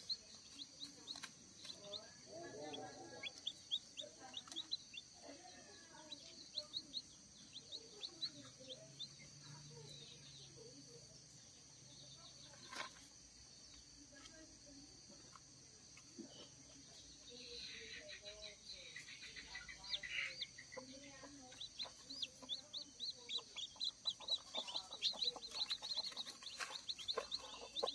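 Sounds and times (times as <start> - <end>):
chicks peeping: 0.0 - 10.9, 15.4 - 27.9.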